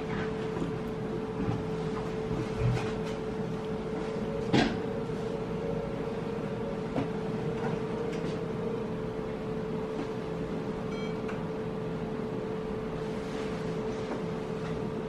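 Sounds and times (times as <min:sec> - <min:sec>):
steady indoor hum: 0:00.0 - 0:15.0.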